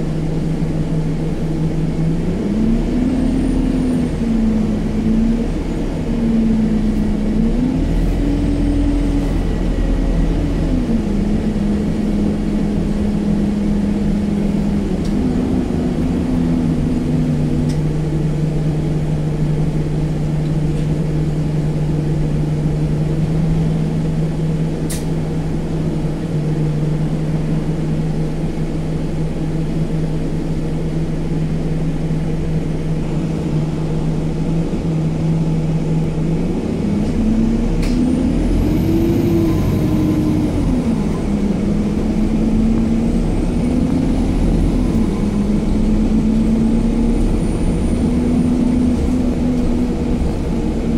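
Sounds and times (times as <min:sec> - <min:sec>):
bus diesel engine hum: 0:00.0 - 0:50.9
road rumble: 0:00.0 - 0:50.9.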